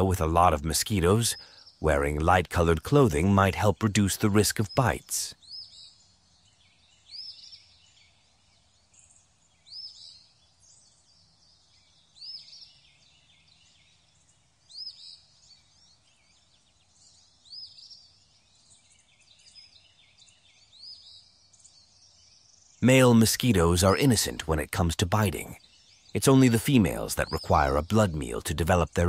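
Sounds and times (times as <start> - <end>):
faint chirps of other birds: 0.0 - 29.0
high bird chirp: 0.0 - 29.0.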